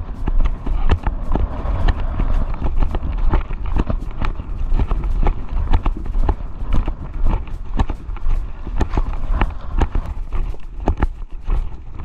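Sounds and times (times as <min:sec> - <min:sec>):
low rumble: 0:00.0 - 0:11.5
footsteps walking: 0:00.0 - 0:11.8.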